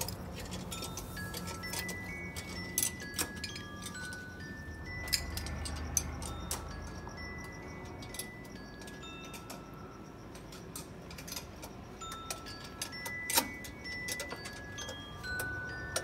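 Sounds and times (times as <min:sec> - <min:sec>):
chiming bell-like music: 0:00.0 - 0:16.0.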